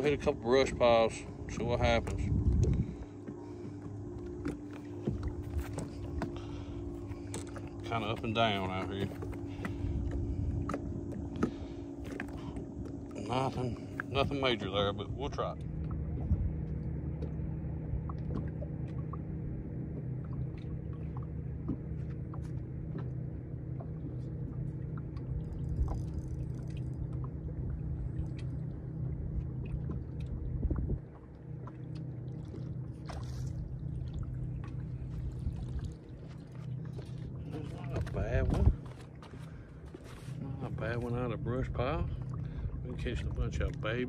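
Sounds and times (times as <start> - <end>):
low rumble: 0.0 - 44.0
steady low hum: 0.0 - 44.0
water lapping against boat hull: 0.0 - 44.0.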